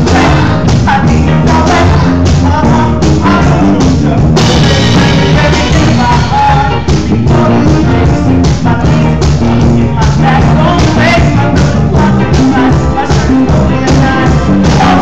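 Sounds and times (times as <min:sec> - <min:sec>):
live rock and roll band: 0:00.0 - 0:15.0
person singing: 0:00.0 - 0:15.0
steady drum beat: 0:00.0 - 0:15.0.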